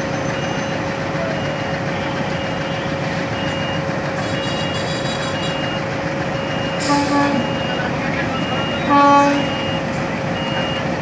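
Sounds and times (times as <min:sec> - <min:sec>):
diesel locomotive engine drone: 0:00.0 - 0:11.0.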